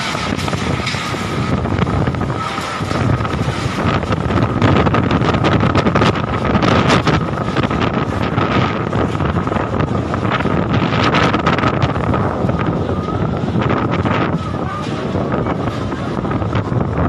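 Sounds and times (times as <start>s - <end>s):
heavy rain: 0.0s - 17.0s
storm wind gusting: 0.0s - 17.0s
wind buffeting microphone: 0.0s - 17.0s.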